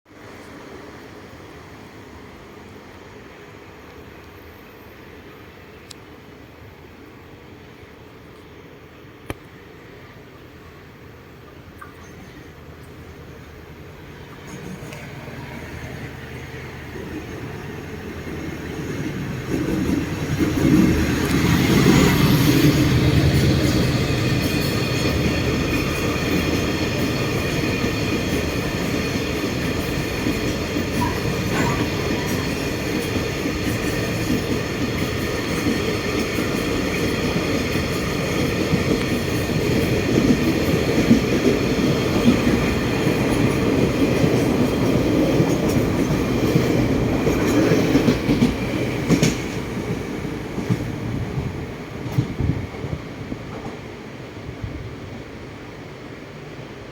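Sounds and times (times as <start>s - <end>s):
freight train passing: 0.1s - 56.9s.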